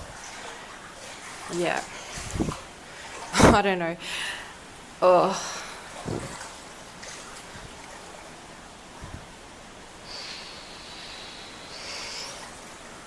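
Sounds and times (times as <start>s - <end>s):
rain and floodwater hiss: 0.0s - 13.0s.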